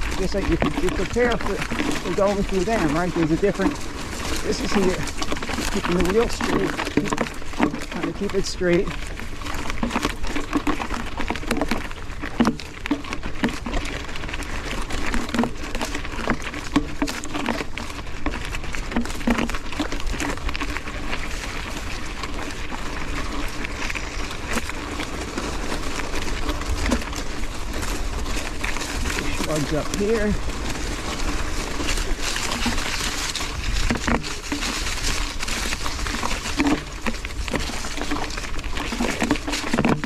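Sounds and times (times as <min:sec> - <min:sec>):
bike clattering over rocks: 0:00.0 - 0:40.0
brush crackling against bike: 0:00.0 - 0:40.0.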